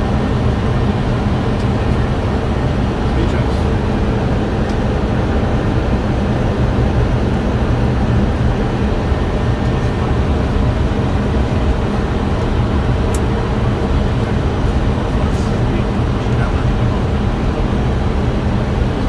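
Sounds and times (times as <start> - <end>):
low drone of jet engines: 0.0 - 19.0.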